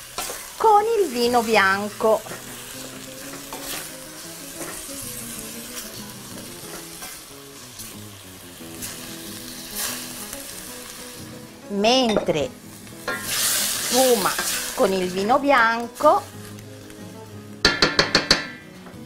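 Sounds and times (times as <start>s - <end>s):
food frying in oil: 0.0s - 18.4s
soft background music: 0.1s - 19.0s.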